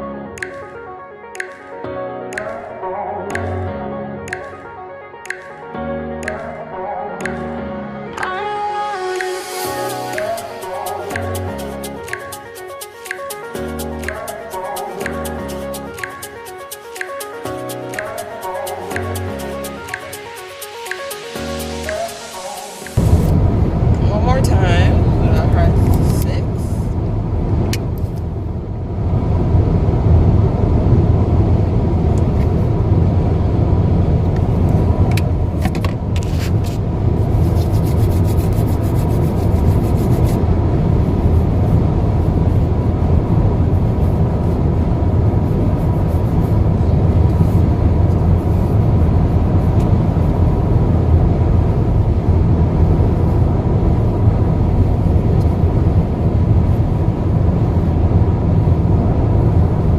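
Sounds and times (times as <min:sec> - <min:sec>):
car cabin road noise: 0:09.2 - 0:59.9.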